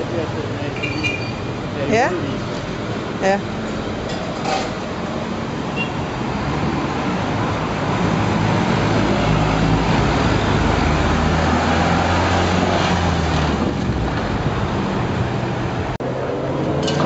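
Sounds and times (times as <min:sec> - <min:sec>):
bus engine hum: 0:00.0 - 0:16.9
street traffic passing: 0:00.0 - 0:17.0.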